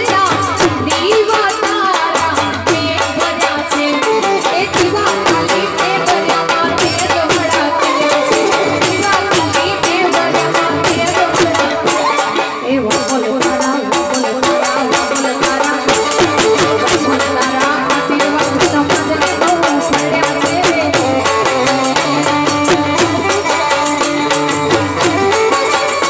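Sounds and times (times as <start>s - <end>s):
harmonium and keyboard melody: 0.0s - 26.0s
quick percussion beat: 0.0s - 26.0s.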